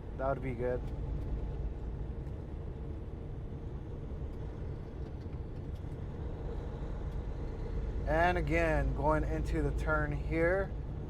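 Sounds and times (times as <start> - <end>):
faint steady hum: 0.0 - 11.0
road noise: 0.0 - 11.0.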